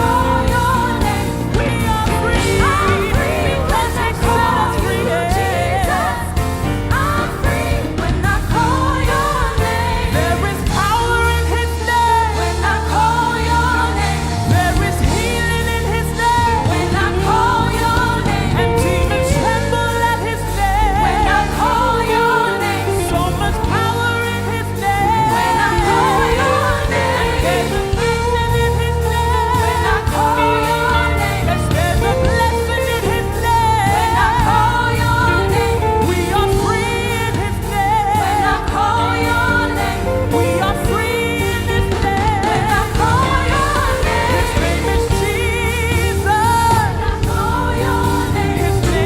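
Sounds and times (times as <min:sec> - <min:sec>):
band playing bass and keys: 0:00.0 - 0:49.0
singers singing melody: 0:00.0 - 0:49.0
sustained keyboard chords: 0:00.0 - 0:49.0.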